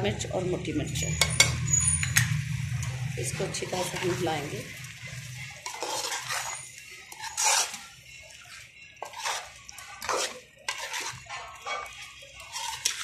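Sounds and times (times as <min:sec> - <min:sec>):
metal spoon scraping a metal pan: 0:00.8 - 0:13.0.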